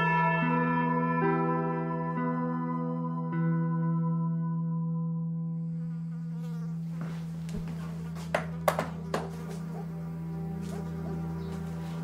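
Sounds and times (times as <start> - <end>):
low buzzing drone: 0.0 - 12.0.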